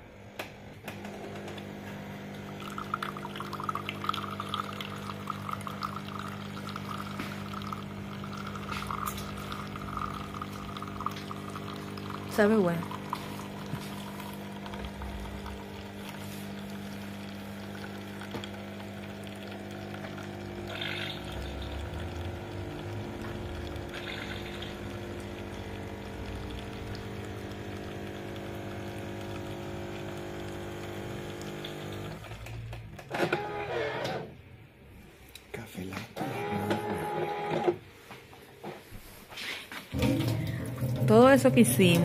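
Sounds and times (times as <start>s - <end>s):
coffee machine pump humming: 0.0s - 32.6s, 36.2s - 37.8s, 39.9s - 42.0s.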